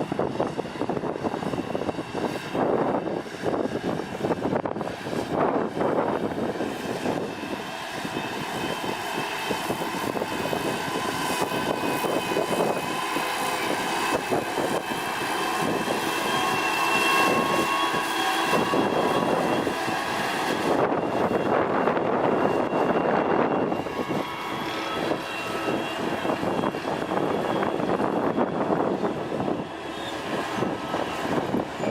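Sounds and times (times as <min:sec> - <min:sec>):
diesel engine rumbling: 0:00.0 - 0:31.9
thin steady whine: 0:00.0 - 0:31.9.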